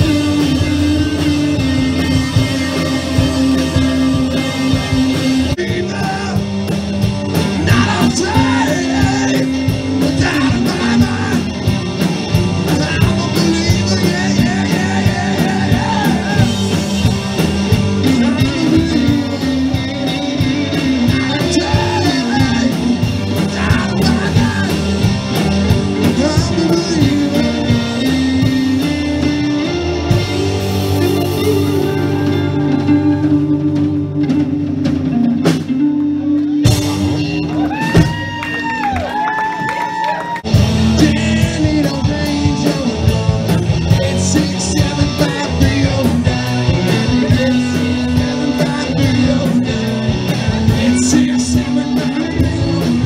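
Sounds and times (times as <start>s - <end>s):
person singing: 0.0s - 35.1s, 39.5s - 53.0s
bass guitar: 0.0s - 53.0s
drum kit beat: 0.0s - 53.0s
electric guitars: 0.0s - 53.0s.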